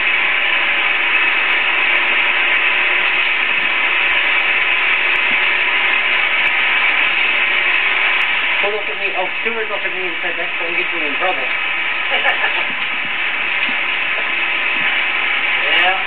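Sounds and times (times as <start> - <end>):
projection machinery whirring: 0.0 - 16.0.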